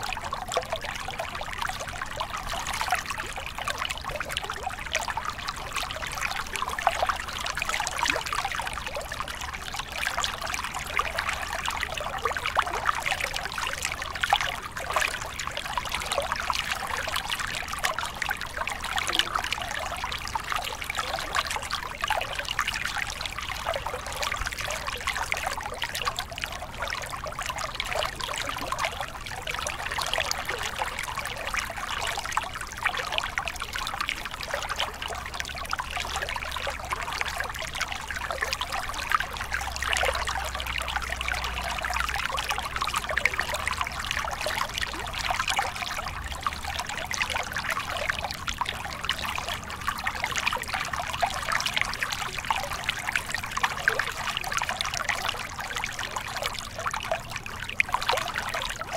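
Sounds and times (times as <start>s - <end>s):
stream splashing over rocks: 0.0s - 58.9s.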